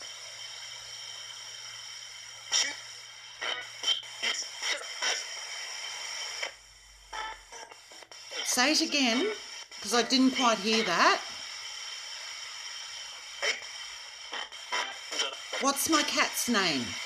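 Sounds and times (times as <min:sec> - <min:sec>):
choppy blips of broadcast sound: 0:00.0 - 0:17.0
radio static hiss: 0:00.0 - 0:17.0.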